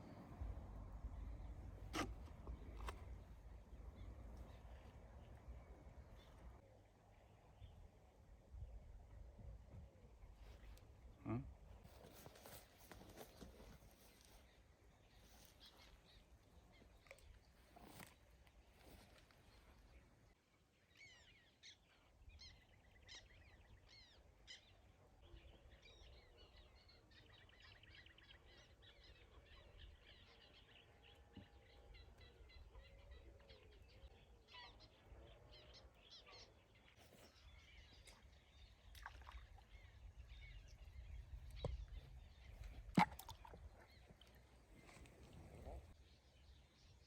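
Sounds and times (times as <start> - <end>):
faint birds twittering: 0.0 - 47.0.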